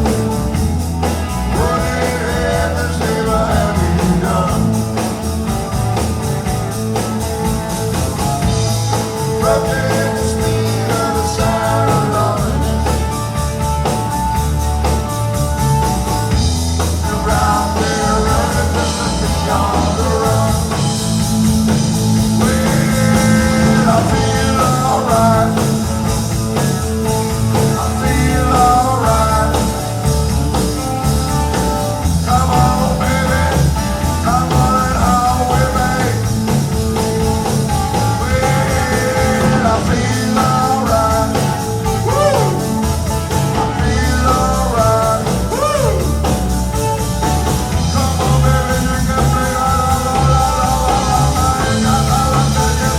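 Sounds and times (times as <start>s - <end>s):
live country-rock band: 0.0s - 52.9s.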